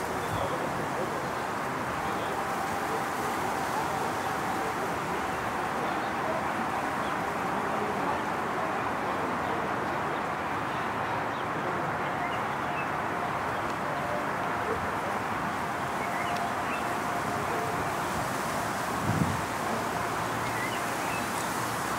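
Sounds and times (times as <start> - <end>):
murmur of distant voices: 0.0 - 21.9.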